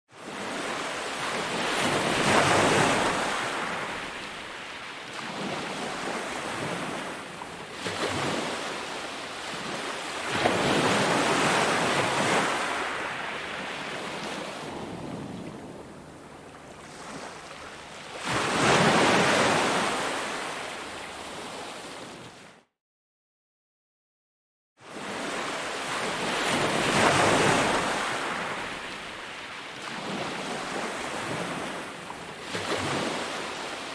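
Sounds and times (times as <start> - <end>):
ocean waves breaking on beach: 0.1 - 22.5, 24.8 - 33.9.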